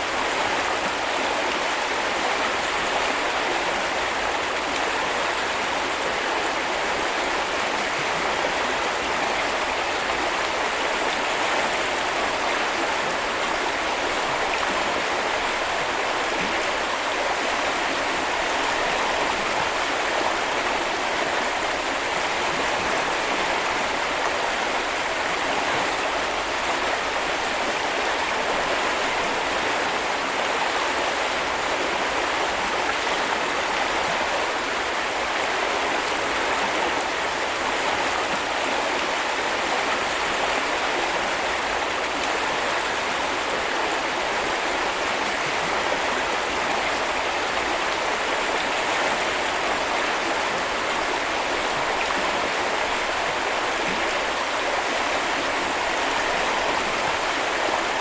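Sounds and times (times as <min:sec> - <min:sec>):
brook flowing over stones: 0:00.0 - 0:58.0.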